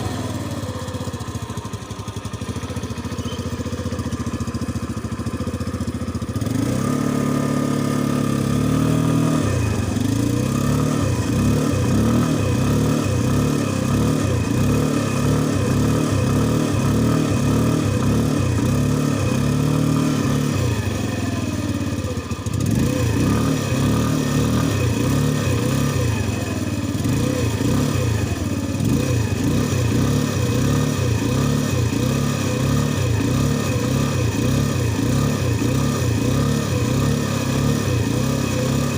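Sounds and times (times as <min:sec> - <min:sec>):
engine revving: 0:00.0 - 0:38.9.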